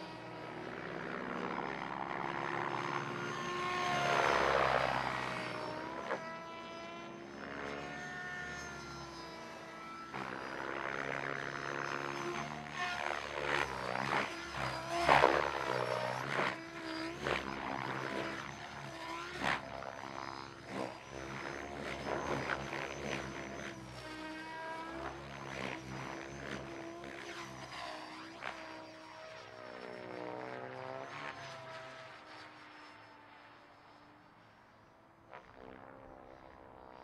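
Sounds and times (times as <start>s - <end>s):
rc helicopter rotor whirring: 0.0s - 37.0s.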